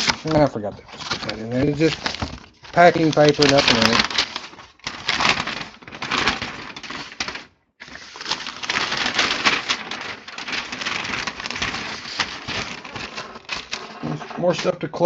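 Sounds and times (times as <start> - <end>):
packing paper crinkling: 0.0 - 14.8.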